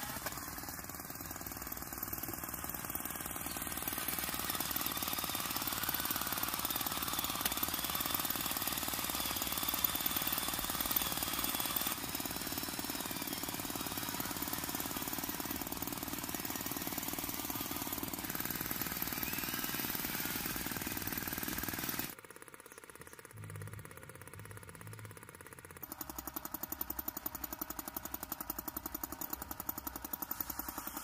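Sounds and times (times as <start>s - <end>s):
model tractor chugging: 0.0s - 31.0s.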